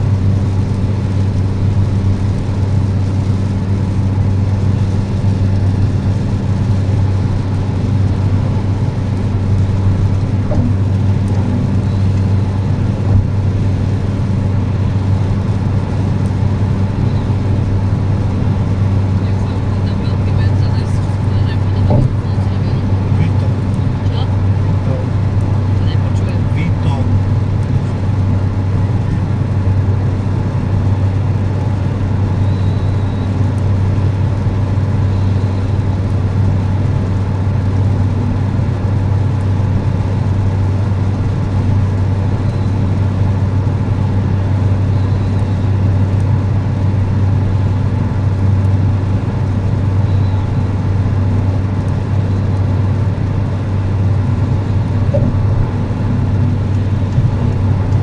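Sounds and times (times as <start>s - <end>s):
car cabin road and engine drone: 0.0s - 58.0s.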